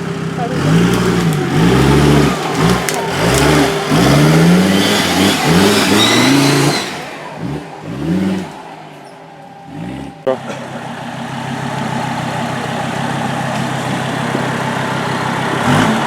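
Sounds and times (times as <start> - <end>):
engine revving in throttle blips: 0.0 - 16.0.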